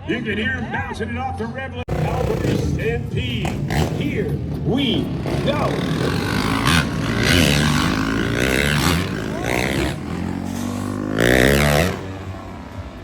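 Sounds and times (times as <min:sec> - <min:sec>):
dirt bikes revving hard: 0:01.9 - 0:13.0.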